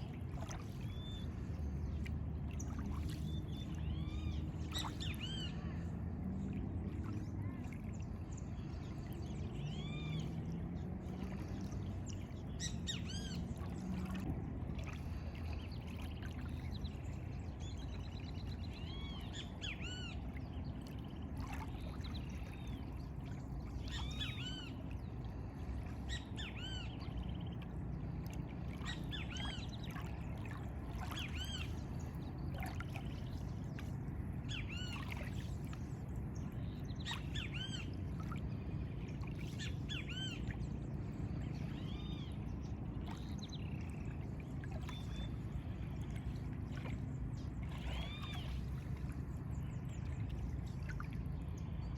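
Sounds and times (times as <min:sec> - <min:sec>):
steady low rumble: 0:00.0 - 0:51.9.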